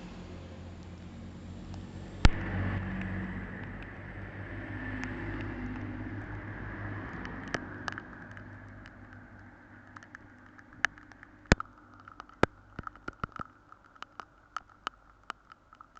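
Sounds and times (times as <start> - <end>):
sharp ticks: 1.7 - 15.9.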